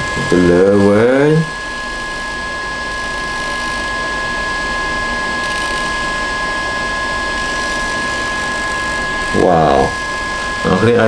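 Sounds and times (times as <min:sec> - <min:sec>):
high whining tones: 0:00.0 - 0:11.0
small motor whirring: 0:00.0 - 0:11.0.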